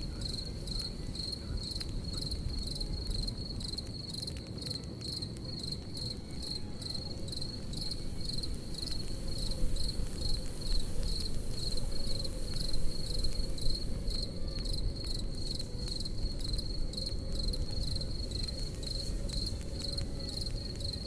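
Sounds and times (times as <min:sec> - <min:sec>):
campfire crackling: 0:00.0 - 0:21.0
crickets chirping: 0:00.0 - 0:21.0.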